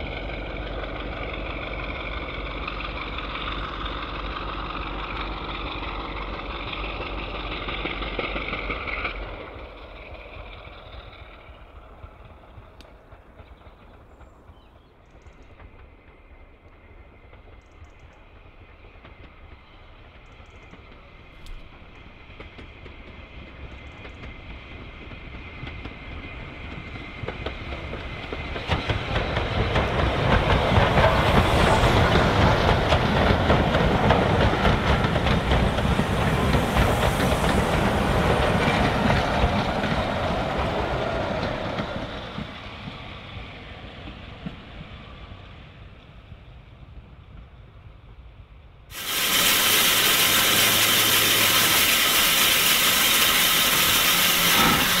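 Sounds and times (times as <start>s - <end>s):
wheels clattering on rails: 0.0s - 46.2s
steam train passing: 0.0s - 55.0s.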